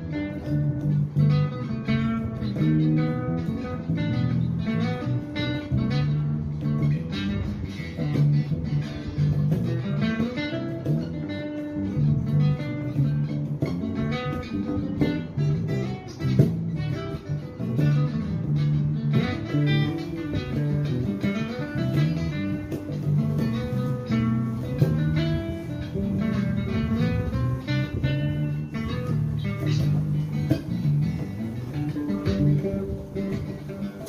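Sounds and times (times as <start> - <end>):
acoustic guitar plucking: 0.0 - 34.0
electric bass guitar: 0.0 - 34.0.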